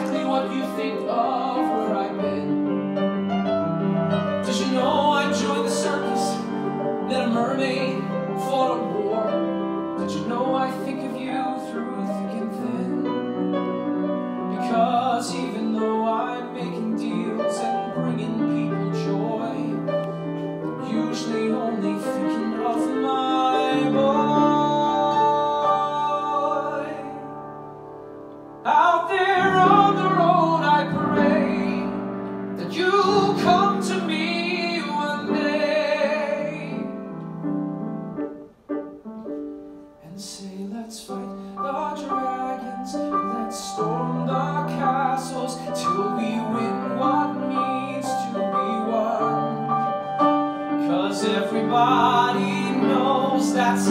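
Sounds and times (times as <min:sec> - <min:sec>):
man singing a ballad: 0:00.0 - 0:27.6, 0:28.6 - 0:37.3, 0:40.0 - 0:53.9
piano accompaniment: 0:00.0 - 0:53.9.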